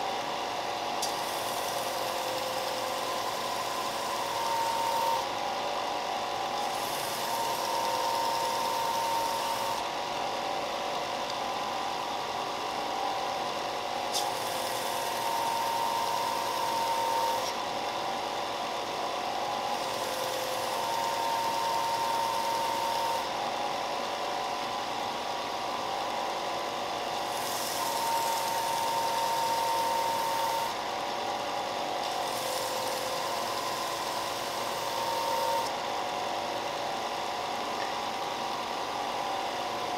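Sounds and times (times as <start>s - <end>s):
belt sander running: 0.0s - 39.9s.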